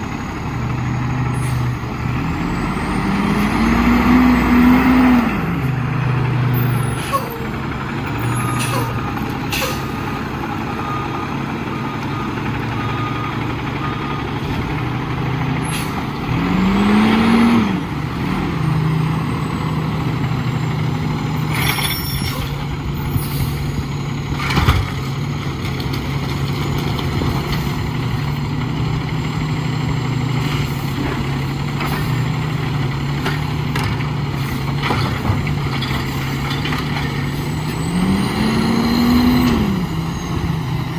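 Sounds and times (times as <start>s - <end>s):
garbage truck diesel engine: 0.0s - 40.9s.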